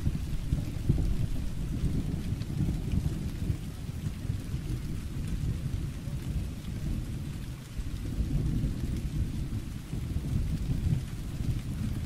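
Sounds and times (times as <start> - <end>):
rolling thunder: 0.0 - 12.0
steady rain: 0.0 - 12.0.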